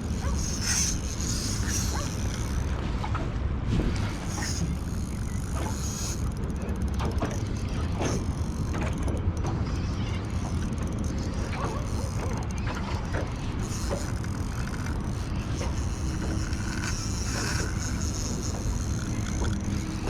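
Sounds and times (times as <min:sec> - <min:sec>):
fishing reel gears clicking: 0:00.0 - 0:03.2, 0:03.9 - 0:20.0.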